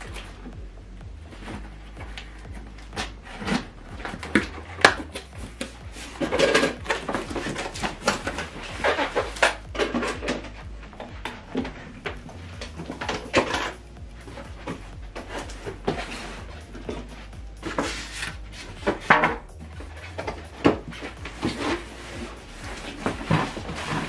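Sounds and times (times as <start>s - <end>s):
cardboard scraping and rustling: 1.3s - 24.0s.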